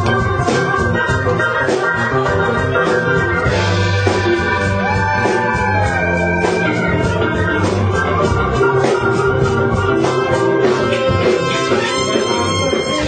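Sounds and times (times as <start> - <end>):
bass line: 0.0 - 13.0
keyboard chords: 0.0 - 13.0.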